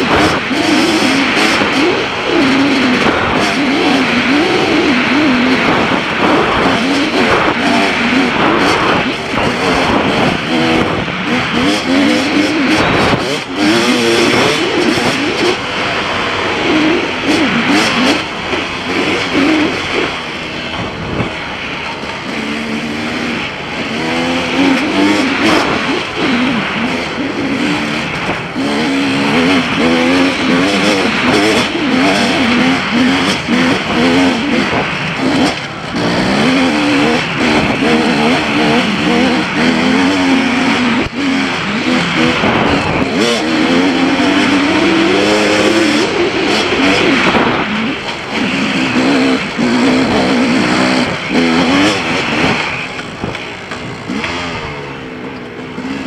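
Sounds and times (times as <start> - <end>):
dirt bike engine revving: 0.0 - 56.0
steady rushing noise: 0.0 - 56.0.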